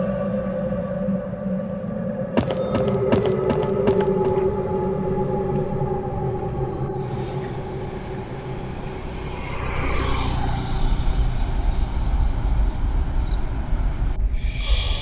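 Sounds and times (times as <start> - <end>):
dark ambient drone rumble: 0.0 - 15.0.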